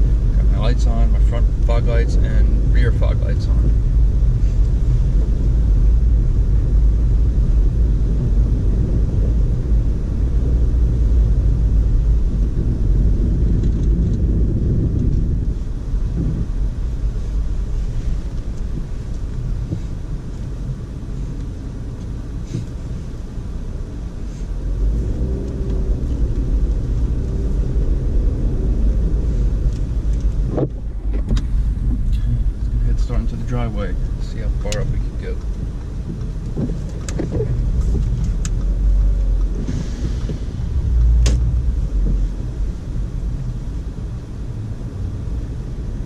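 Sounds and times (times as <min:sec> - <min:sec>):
car engine and tyres rumbling: 0:00.0 - 0:46.0.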